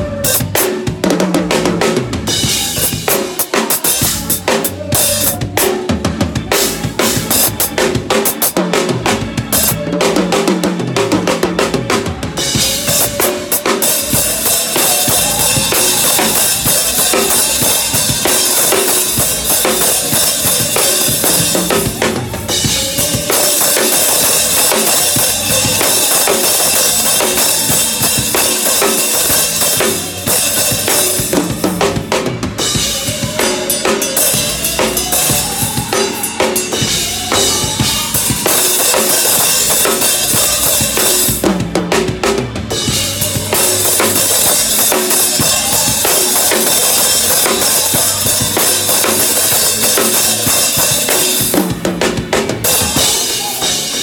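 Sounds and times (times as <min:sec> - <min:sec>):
drum kit groove: 0:00.0 - 0:54.0.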